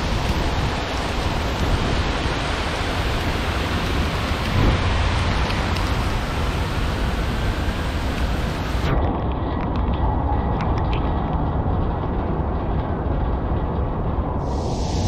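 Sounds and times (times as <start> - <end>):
heavy rain on a street: 0.0 - 15.0.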